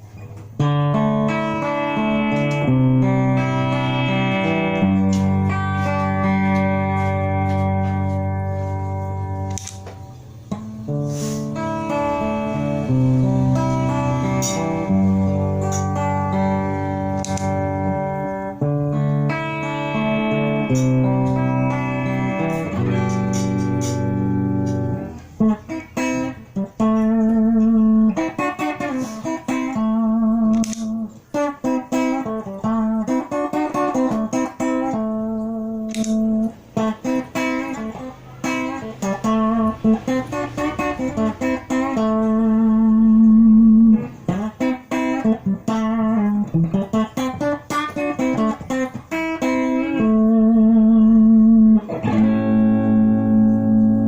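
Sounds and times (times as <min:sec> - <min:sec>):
electric guitar with chorus effect: 0:00.0 - 0:54.0.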